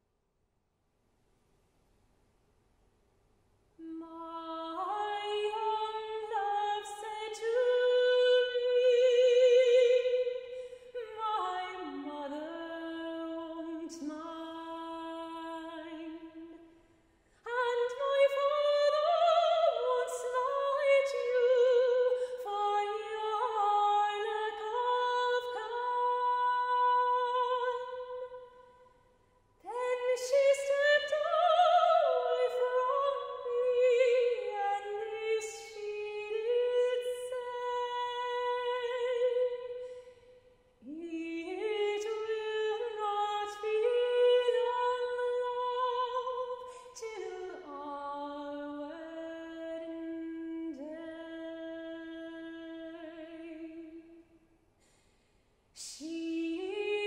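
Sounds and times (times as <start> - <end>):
soprano singing: 3.8 - 16.7, 17.4 - 28.6, 29.6 - 39.9, 40.8 - 54.2, 55.8 - 57.0.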